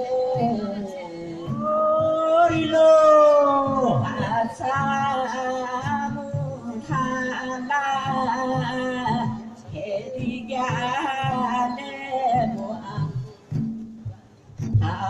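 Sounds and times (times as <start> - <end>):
person singing: 0.0 - 13.4, 14.8 - 15.0.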